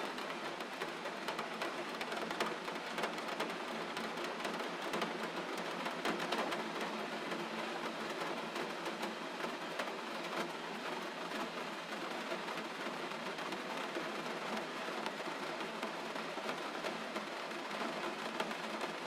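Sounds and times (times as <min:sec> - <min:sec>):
gentle rain falling: 0:00.0 - 0:19.0.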